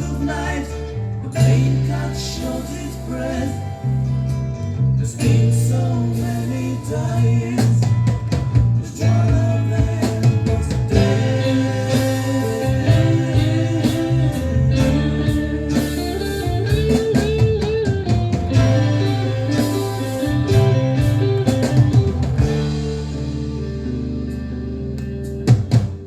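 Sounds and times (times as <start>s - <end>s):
bass guitar: 0.0s - 26.0s
electric lead guitar: 0.0s - 26.0s
drum kit: 1.4s - 4.5s, 5.2s - 26.0s.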